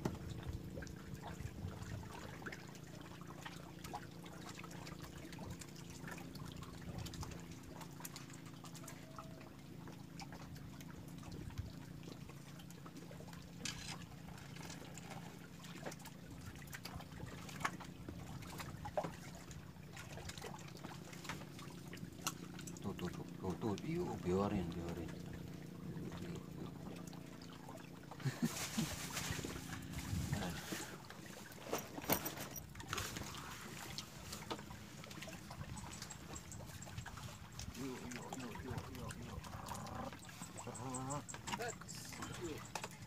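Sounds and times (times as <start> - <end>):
water lapping and trickling: 0.0 - 43.0.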